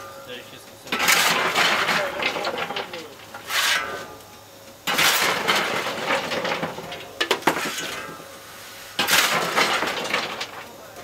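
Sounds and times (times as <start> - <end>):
shovel scraping coal: 0.9 - 4.2, 4.8 - 10.7.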